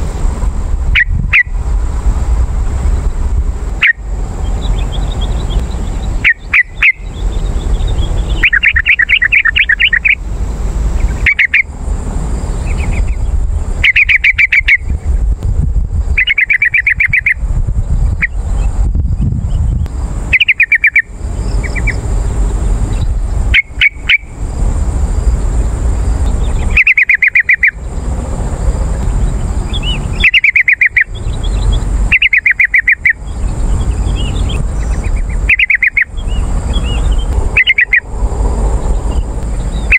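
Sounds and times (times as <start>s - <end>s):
steady low rumble: 0.0s - 39.9s
bird chattering song: 0.9s - 1.6s, 3.0s - 10.3s, 10.9s - 11.7s, 12.3s - 15.3s, 16.0s - 24.5s, 25.2s - 28.2s, 28.8s - 38.1s, 38.7s - 39.9s.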